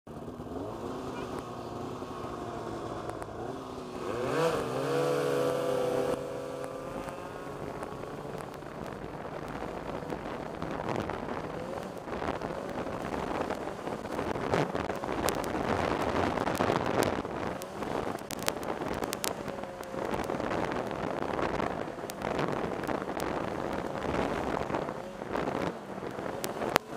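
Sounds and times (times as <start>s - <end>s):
snowmobile engines revving: 0.1s - 26.9s
wind noise on microphone: 3.9s - 26.9s.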